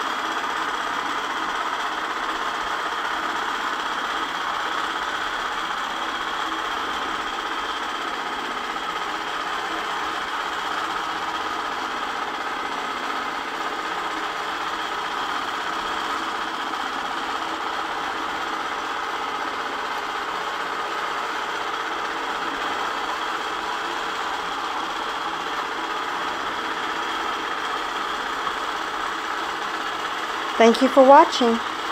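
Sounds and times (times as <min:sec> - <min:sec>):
machine motor hum: 0:00.0 - 0:31.9.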